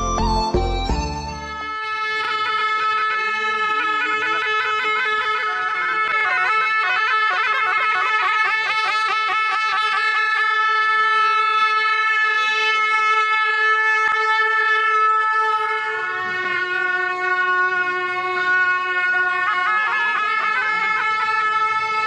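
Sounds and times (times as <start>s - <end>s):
double-reed horns playing long notes: 0.0s - 22.0s.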